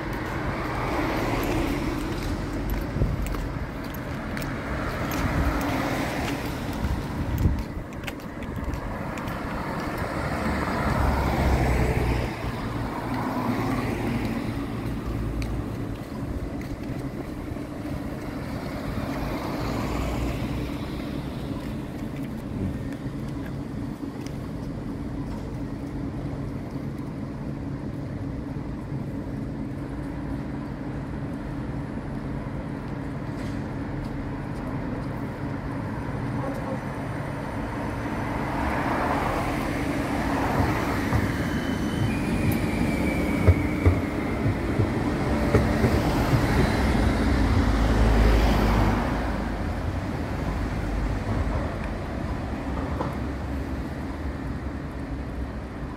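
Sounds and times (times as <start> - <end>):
tram electrical hum: 0.0 - 55.9
tram passing with falling whine: 0.0 - 55.9
wheel and rail noise: 0.0 - 55.9.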